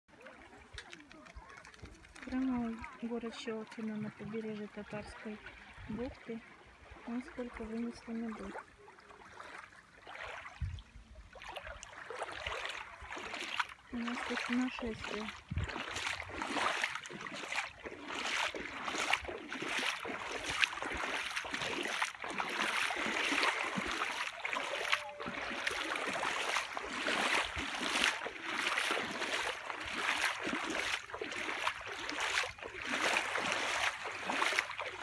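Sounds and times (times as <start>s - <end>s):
small waves splashing at shore: 0.1s - 35.0s.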